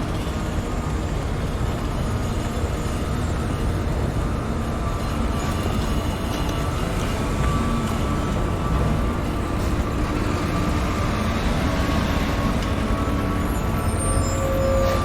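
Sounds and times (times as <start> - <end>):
heavy machinery engines rumbling: 0.0 - 15.0.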